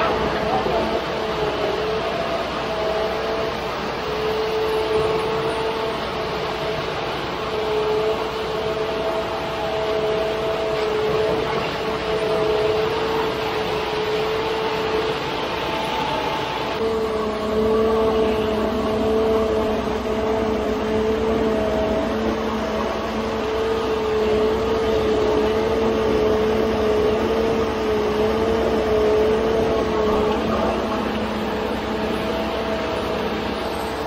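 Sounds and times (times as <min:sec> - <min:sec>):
concrete truck droning: 0:00.0 - 0:34.0
high whine: 0:00.0 - 0:34.0.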